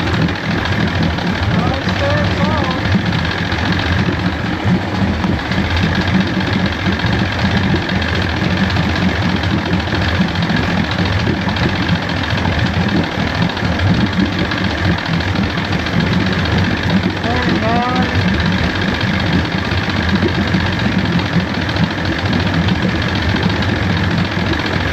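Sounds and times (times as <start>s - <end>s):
outboard motor running: 0.0s - 24.9s.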